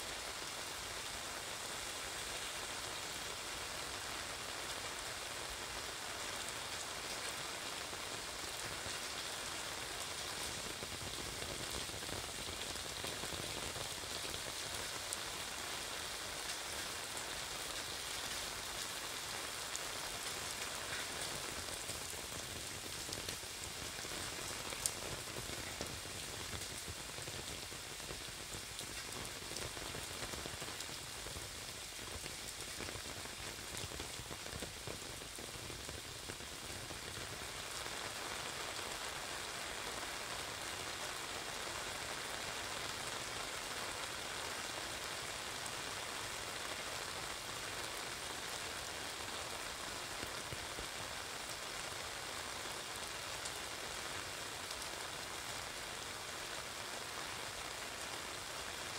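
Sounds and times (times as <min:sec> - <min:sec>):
rain pattering on umbrella: 0:00.0 - 0:58.9.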